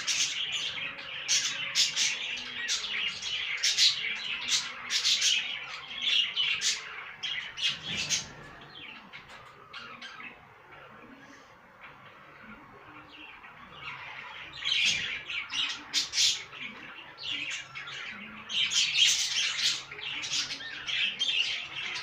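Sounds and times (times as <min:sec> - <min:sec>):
budgerigars chirping and squawking: 0:00.0 - 0:22.0.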